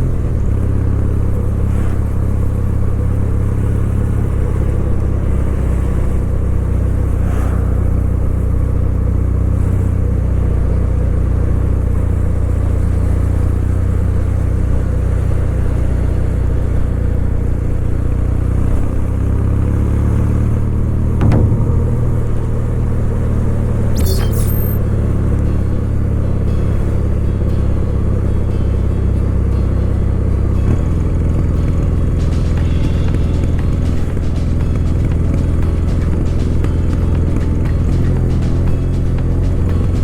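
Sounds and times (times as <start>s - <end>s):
motorcycle engine running steadily: 0.0s - 40.0s.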